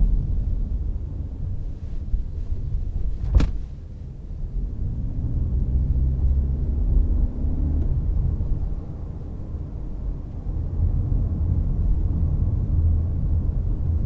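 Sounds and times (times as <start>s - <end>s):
car rumbling on road: 0.0s - 14.0s
engine hum: 0.0s - 14.0s.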